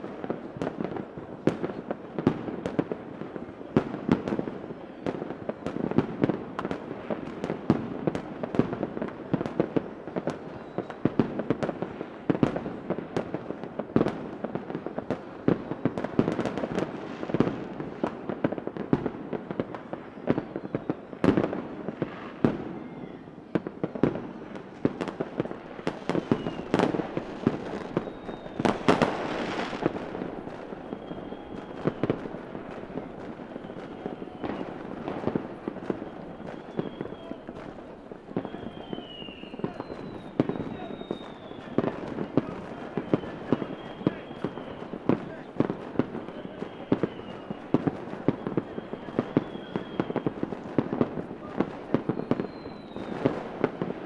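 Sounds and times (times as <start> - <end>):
fireworks banging and crackling: 0.0 - 54.0.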